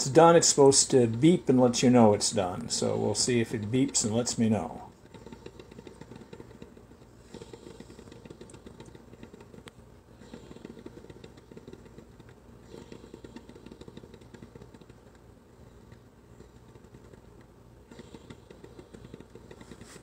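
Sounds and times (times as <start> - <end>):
coffee maker water gurgling: 0.0 - 20.0.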